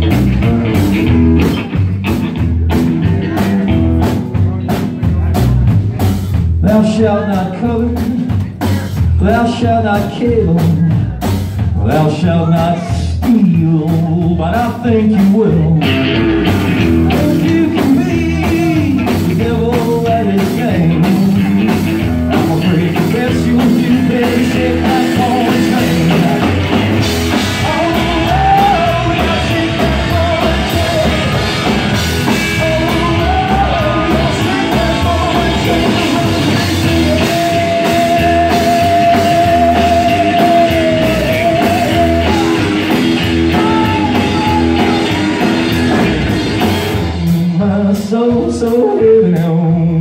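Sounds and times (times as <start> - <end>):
electric guitar lead: 0.0 - 8.3, 15.2 - 47.7
drums: 0.0 - 50.0
upright bass: 0.0 - 50.0.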